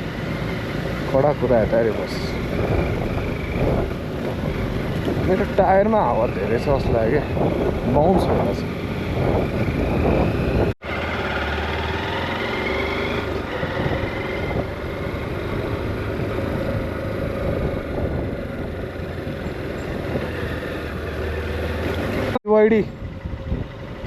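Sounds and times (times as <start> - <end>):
wind and road noise: 0.0 - 24.0
motorcycle engine running: 2.1 - 24.0.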